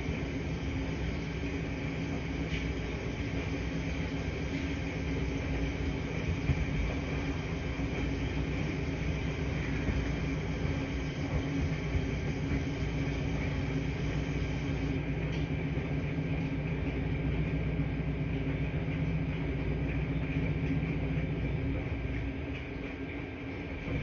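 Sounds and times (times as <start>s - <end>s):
laundry machines humming: 0.0s - 24.0s.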